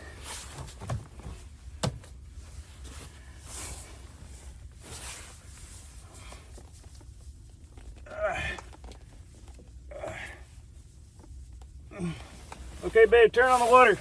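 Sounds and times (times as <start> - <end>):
low steady rumble: 0.0 - 14.0
rustling and handling noises: 0.0 - 14.0.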